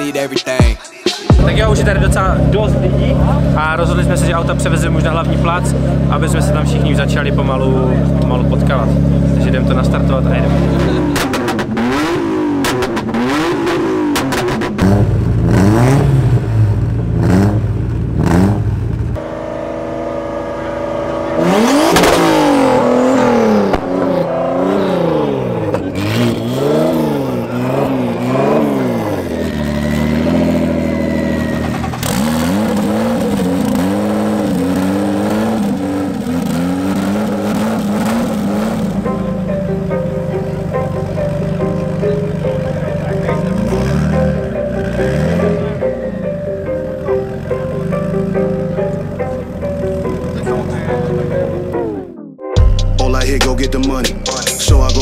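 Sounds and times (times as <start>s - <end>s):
car engines revving: 1.2s - 55.0s.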